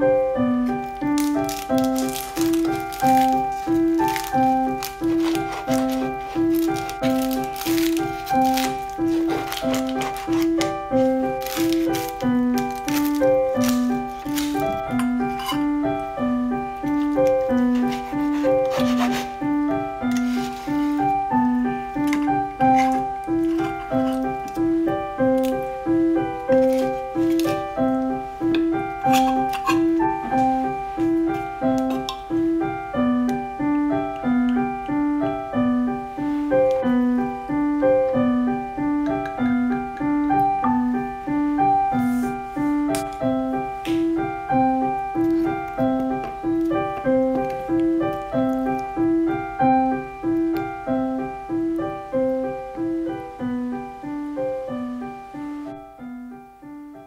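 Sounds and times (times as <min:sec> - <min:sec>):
solo piano music: 0:00.0 - 0:57.0.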